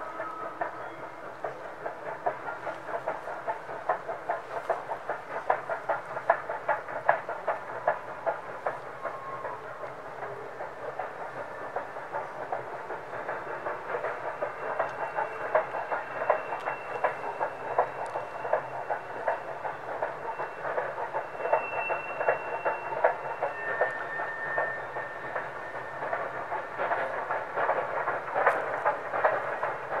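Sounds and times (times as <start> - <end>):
steam locomotive exhaust chuffing: 0.0 - 30.0.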